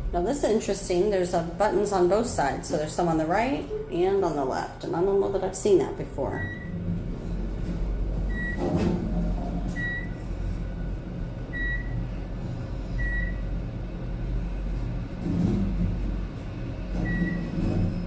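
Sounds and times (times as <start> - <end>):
elevator hum: 0.0 - 18.0.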